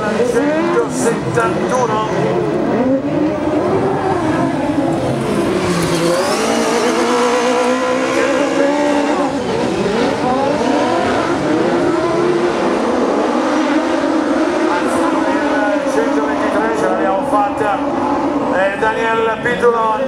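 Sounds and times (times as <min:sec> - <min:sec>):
racing buggy engines revving: 0:00.0 - 0:20.0.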